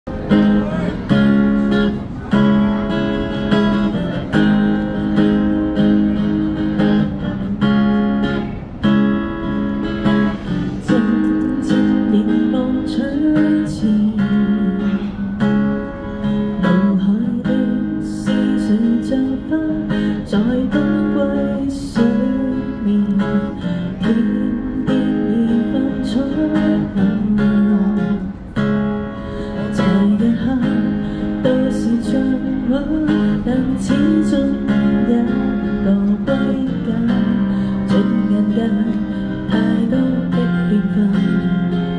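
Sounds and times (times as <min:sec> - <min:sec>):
acoustic guitar strumming and picking: 0:00.1 - 0:41.9.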